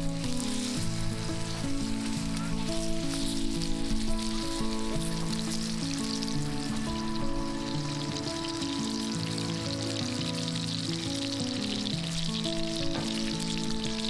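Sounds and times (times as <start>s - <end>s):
background music with held notes: 0.0s - 14.0s
crackling sizzle: 0.0s - 14.0s.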